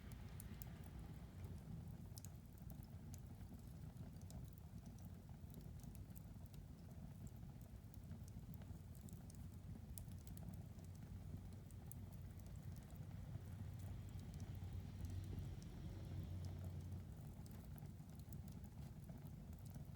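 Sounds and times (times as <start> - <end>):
low steady rumble: 0.0 - 4.6, 8.2 - 19.9
wood fire crackling: 0.0 - 19.9.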